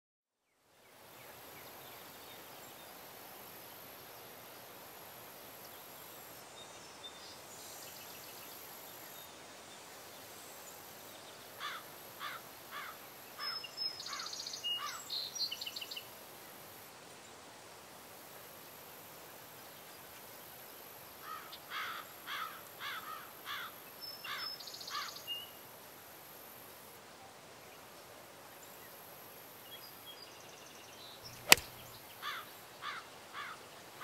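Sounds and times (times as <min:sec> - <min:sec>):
faint steady hiss: 0:00.4 - 0:34.0.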